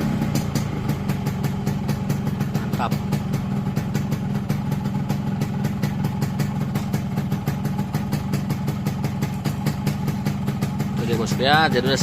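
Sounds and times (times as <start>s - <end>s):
two-stroke engine idling: 0.0s - 12.0s.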